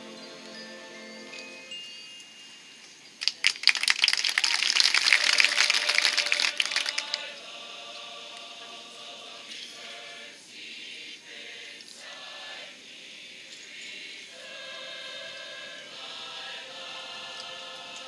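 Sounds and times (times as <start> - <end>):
choir-like held chords: 0.0 - 1.8, 4.9 - 18.0.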